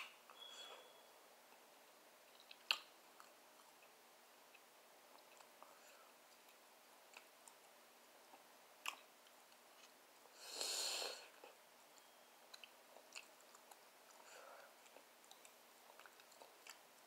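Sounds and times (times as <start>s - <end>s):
person chewing: 2.3s - 17.0s.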